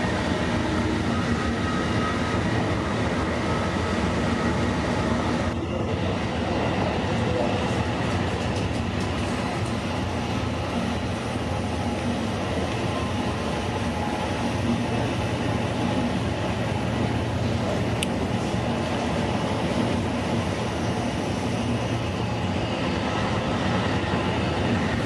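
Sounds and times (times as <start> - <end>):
train car rumbling on track: 0.0 - 25.0.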